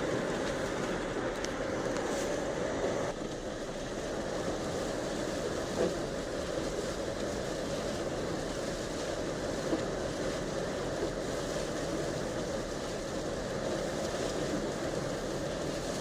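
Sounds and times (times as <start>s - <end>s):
tires on snow: 0.0s - 16.0s.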